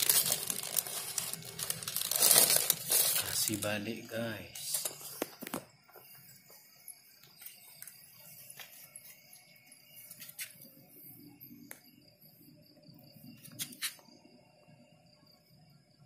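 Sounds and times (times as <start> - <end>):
faint high-pitched ringing: 0.0 - 16.0.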